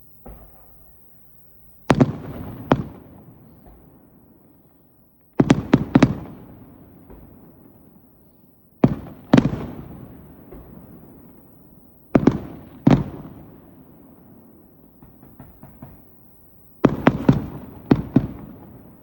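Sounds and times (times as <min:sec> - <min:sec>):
fireworks bangs with echoing rumble: 0:00.0 - 0:19.0.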